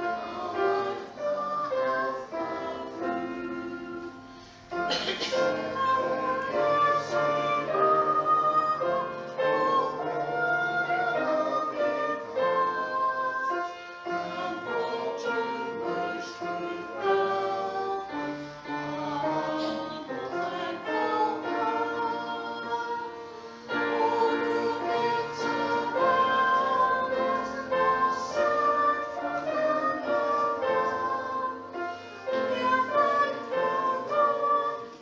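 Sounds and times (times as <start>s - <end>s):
slow church music with singing: 0.0s - 35.0s.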